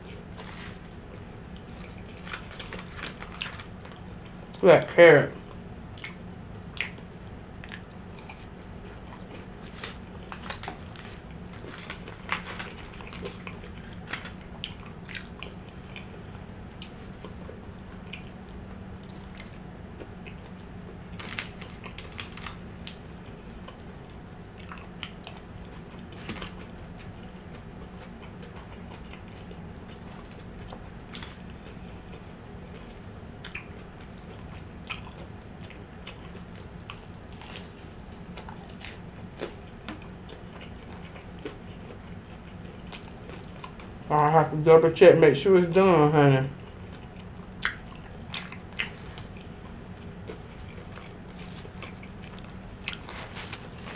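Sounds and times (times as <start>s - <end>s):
chewing and biting: 0.0s - 4.4s, 5.9s - 44.0s, 46.6s - 53.9s
faint low hum: 0.0s - 53.9s.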